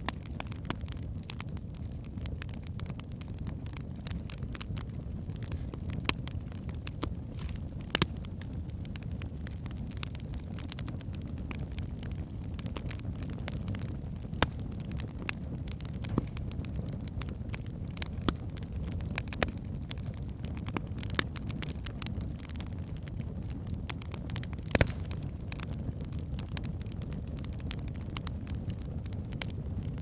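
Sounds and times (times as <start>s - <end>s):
log fire crackling: 0.0s - 30.0s.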